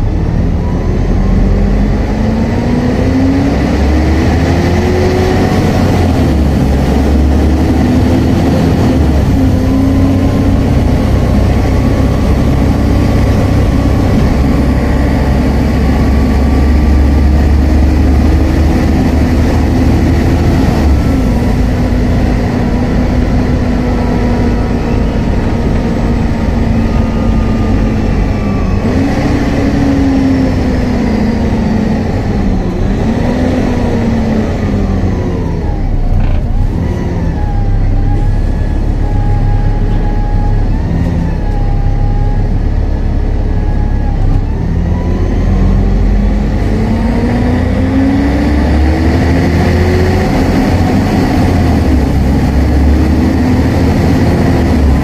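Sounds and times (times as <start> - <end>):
diesel bus engine: 0.0 - 55.0
gearbox whine: 0.0 - 55.0
loud cooling fan: 0.0 - 55.0.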